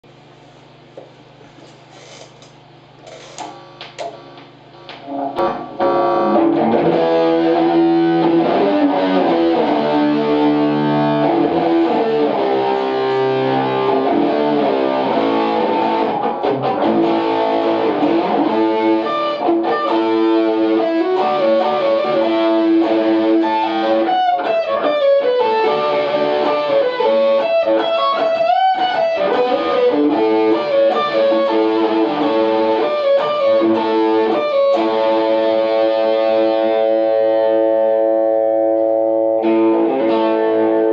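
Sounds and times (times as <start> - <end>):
overdriven electric guitar lead: 3.1 - 40.9.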